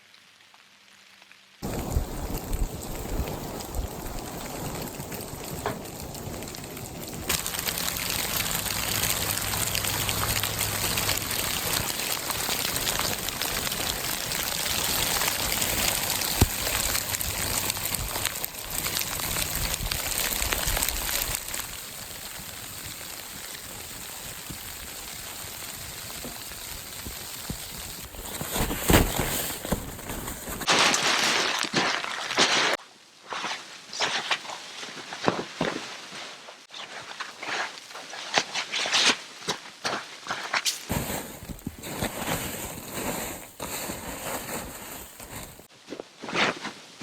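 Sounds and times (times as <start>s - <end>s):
sleet pelting tent fabric: 7.0s - 21.8s, 23.8s - 47.0s.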